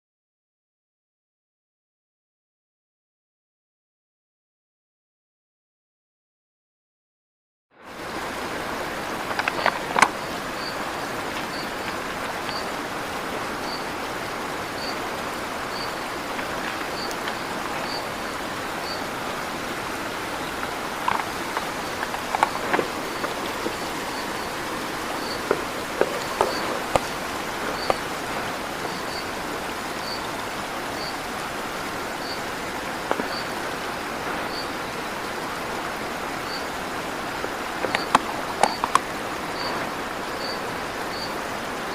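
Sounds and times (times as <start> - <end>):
river water rushing: 7.8 - 41.9.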